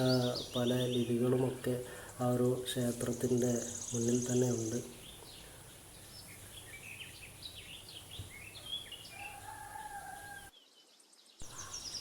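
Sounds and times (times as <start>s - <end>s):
faint birds chirping: 0.0s - 12.0s
soft background hiss: 0.0s - 12.0s.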